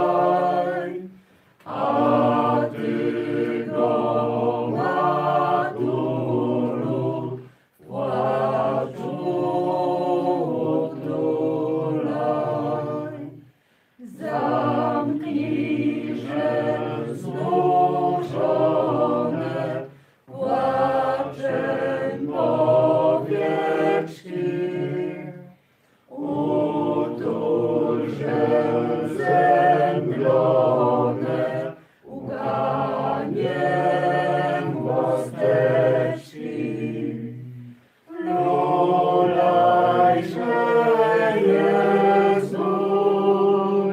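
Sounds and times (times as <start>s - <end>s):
voices singing a hymn: 0.0s - 43.9s.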